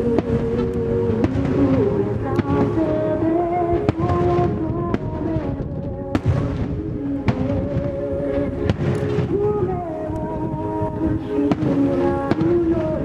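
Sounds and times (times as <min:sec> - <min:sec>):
fireworks bangs: 0:00.0 - 0:13.0
music with sung-like melody: 0:00.0 - 0:13.0.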